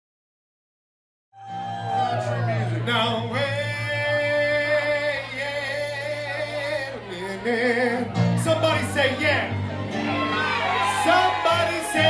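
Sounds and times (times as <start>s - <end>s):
low musical accompaniment: 2.0s - 12.0s.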